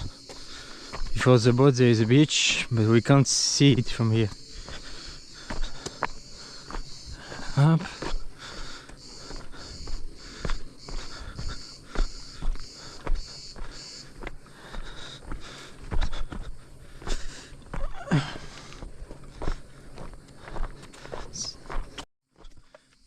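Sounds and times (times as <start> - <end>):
heavy breathing: 0.0 - 1.2, 4.3 - 21.8
footsteps on rocky trail: 0.0 - 23.0.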